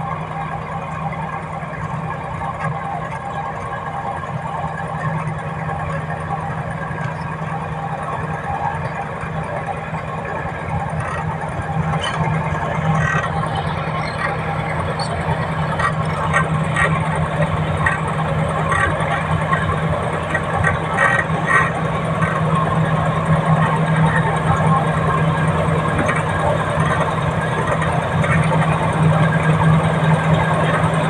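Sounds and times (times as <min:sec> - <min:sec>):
bulldozer diesel engine running: 0:00.0 - 0:31.0
tracks clanking: 0:00.0 - 0:31.0.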